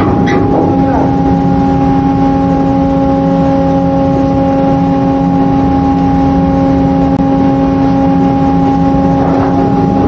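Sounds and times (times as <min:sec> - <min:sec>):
windlass machinery humming: 0:00.0 - 0:10.0.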